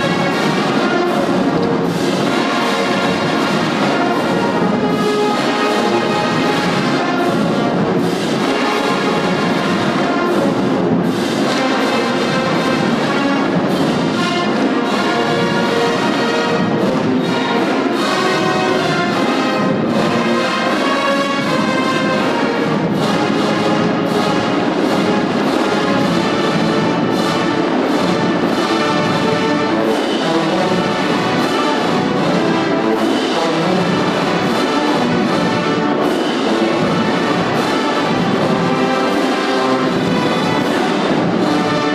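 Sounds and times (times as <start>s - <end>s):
marching band brass: 0.0s - 41.9s
marching drums beating: 0.0s - 41.9s.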